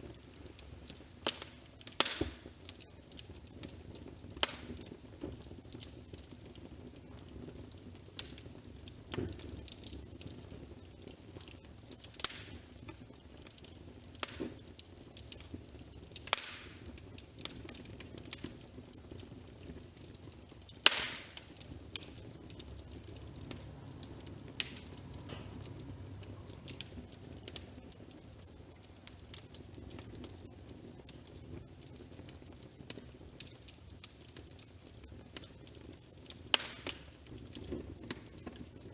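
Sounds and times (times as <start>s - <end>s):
wood fire popping and snapping: 0.0s - 38.9s.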